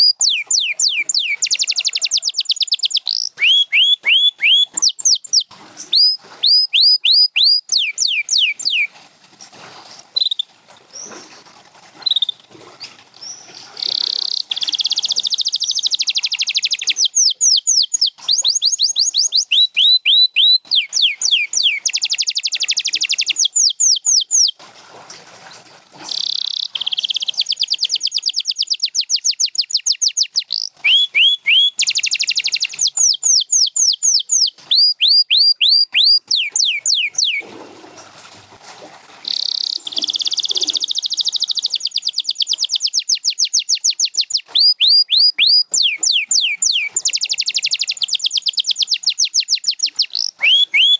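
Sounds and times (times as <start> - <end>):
canary singing: 0.0 - 8.9, 13.2 - 24.6, 26.1 - 37.4, 39.2 - 50.9.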